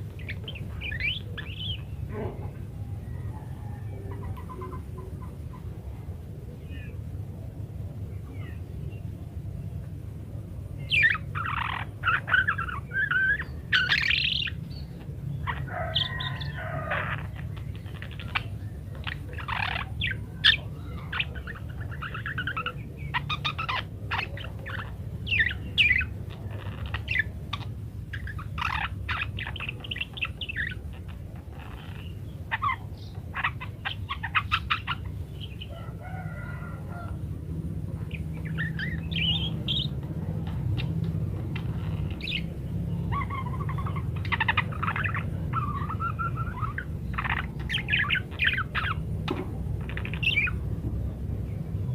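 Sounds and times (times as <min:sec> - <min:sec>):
budgerigars chattering: 0:00.0 - 0:02.7, 0:03.9 - 0:05.7, 0:10.8 - 0:51.9
steady low hum: 0:00.0 - 0:51.9.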